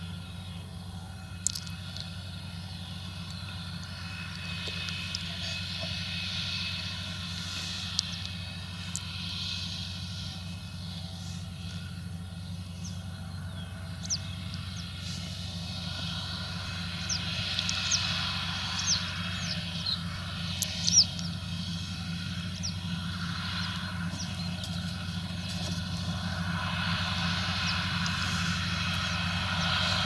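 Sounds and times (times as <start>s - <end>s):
birds chirping: 0.0s - 30.0s
tractor engine running under load: 0.0s - 30.0s.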